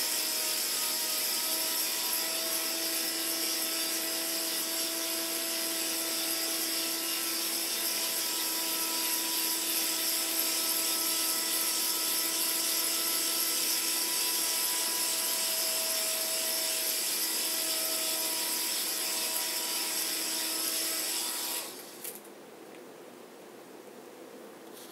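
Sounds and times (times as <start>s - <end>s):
toy drone propellers whirring: 0.0s - 22.3s.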